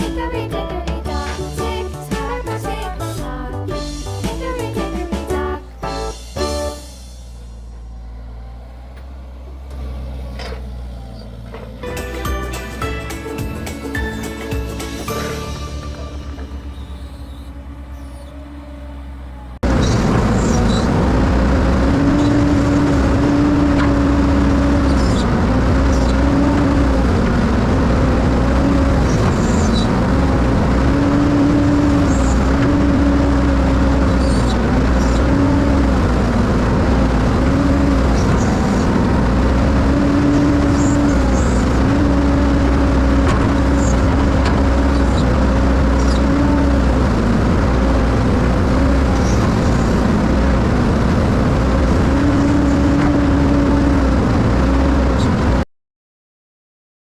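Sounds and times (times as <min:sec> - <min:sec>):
heavy machine engine droning: 0:00.0 - 0:55.6.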